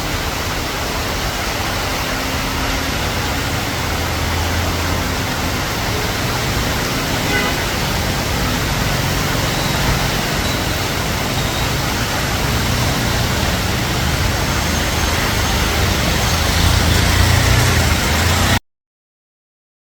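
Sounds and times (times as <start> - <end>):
heavy rain hissing: 0.0 - 18.6.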